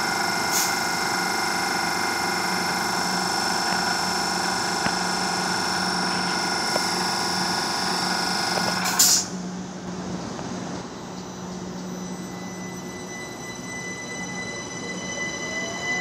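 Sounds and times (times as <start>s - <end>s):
electric train humming and whining: 0.0s - 16.0s.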